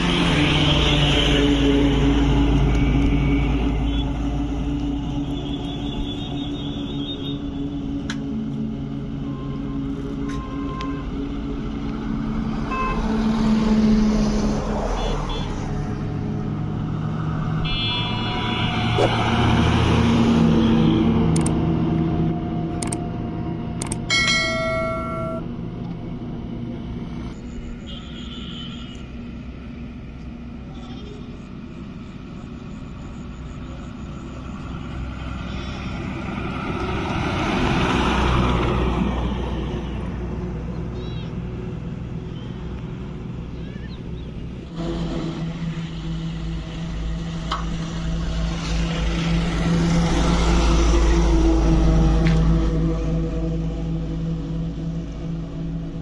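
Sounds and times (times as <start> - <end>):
diesel truck passing: 0.0 - 27.8, 31.3 - 56.0
road traffic passing: 0.0 - 56.0.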